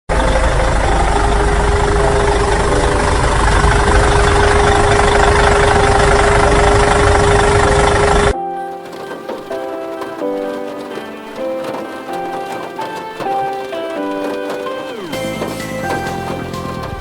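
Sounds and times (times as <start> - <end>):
vehicle engine running: 0.1 - 9.4, 10.0 - 17.0
whining tone: 0.1 - 17.0.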